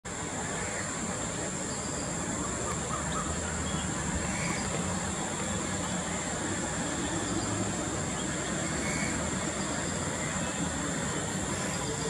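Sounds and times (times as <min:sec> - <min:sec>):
distant road traffic rumble: 0:00.1 - 0:12.0.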